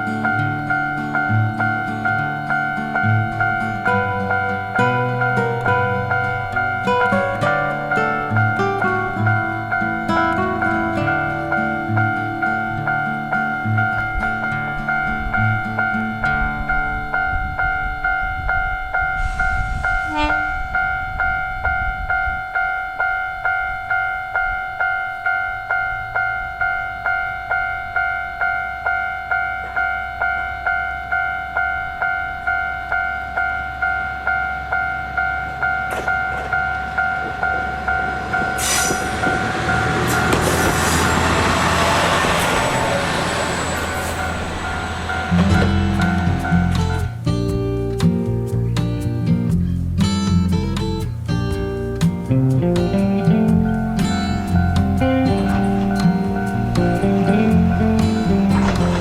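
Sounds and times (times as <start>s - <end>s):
level-crossing alarm ringing: 0.0s - 47.1s, 54.1s - 59.0s
diesel railcar passing: 0.0s - 47.4s, 51.8s - 59.0s.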